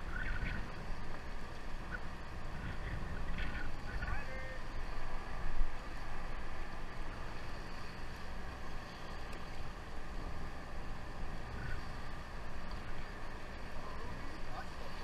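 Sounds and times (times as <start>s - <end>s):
boat engine rumble: 0.0s - 15.0s
water along boat hull: 0.0s - 15.0s.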